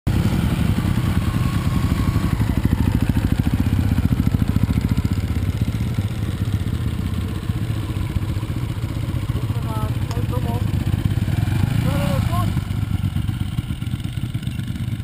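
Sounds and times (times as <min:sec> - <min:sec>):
dirt bike engine running: 0:00.1 - 0:15.0.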